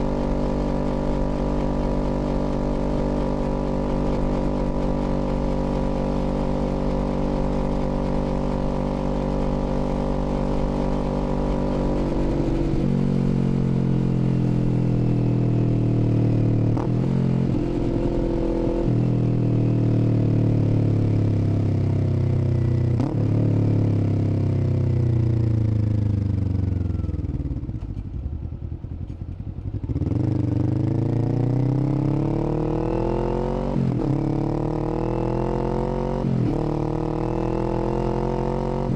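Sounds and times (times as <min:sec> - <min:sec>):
motorcycle engine revving: 0:00.0 - 0:27.9, 0:29.7 - 0:38.9.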